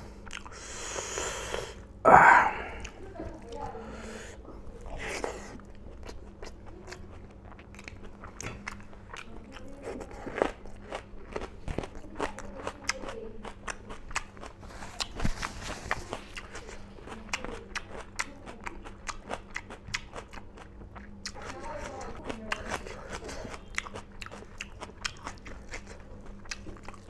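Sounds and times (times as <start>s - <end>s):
man chewing and crunching: 0.1s - 3.0s, 4.8s - 27.0s.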